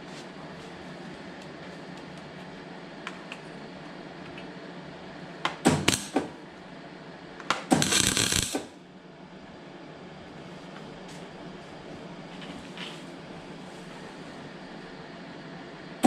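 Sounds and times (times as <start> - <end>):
steady workshop hum: 0.0 - 16.0.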